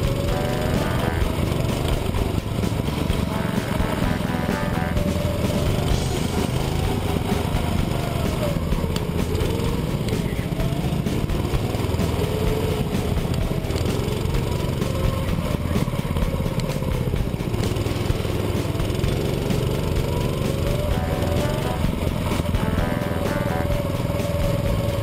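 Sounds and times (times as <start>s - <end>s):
go-kart engine revving: 0.0s - 25.0s.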